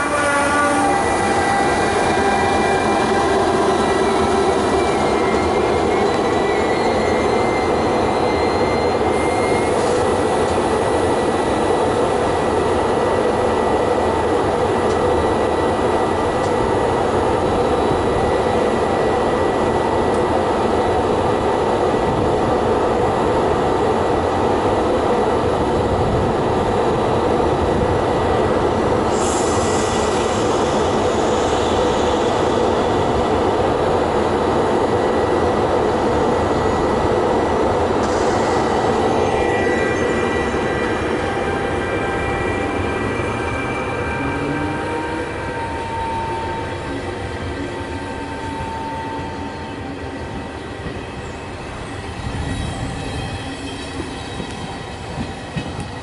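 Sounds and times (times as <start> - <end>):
train rushing noise: 0.0 - 56.0.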